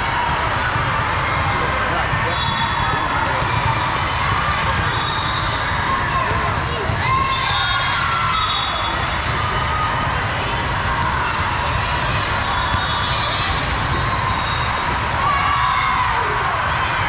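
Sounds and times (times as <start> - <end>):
din of gym hall: 0.0 - 17.0.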